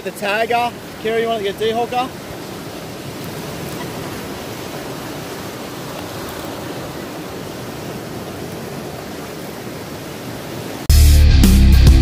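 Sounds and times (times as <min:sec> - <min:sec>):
ocean surf breaking on beach: 0:00.0 - 0:10.9.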